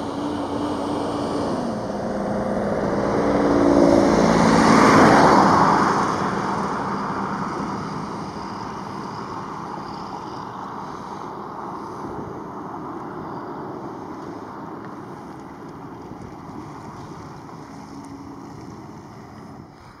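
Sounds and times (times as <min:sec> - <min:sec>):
jet plane flying overhead: 0:00.0 - 0:20.0.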